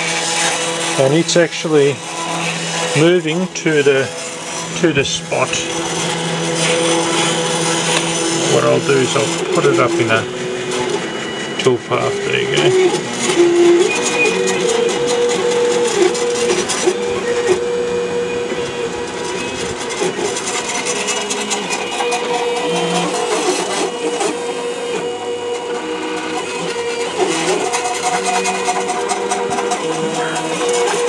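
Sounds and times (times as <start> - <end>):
stepper motors whining: 0.0 - 31.0.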